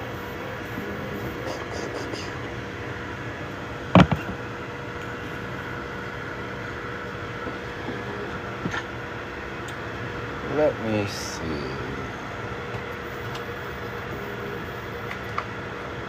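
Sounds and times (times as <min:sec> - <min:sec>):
printer fans and motors humming: 0:00.0 - 0:16.0.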